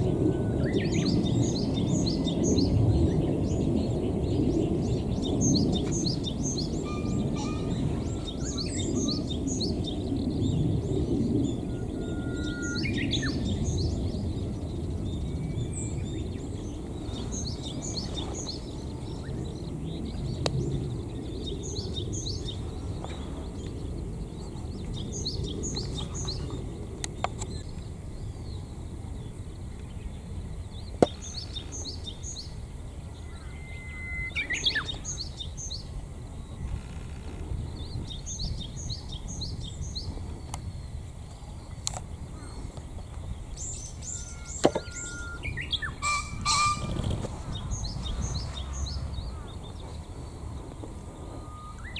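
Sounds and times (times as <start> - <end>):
steady low rumble: 0.0 - 33.6, 37.4 - 51.9
small birds chirping: 0.0 - 51.9.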